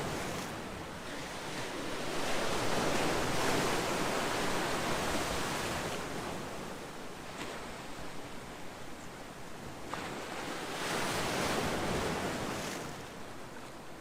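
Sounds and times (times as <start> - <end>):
calm sea waves: 0.0 - 14.0.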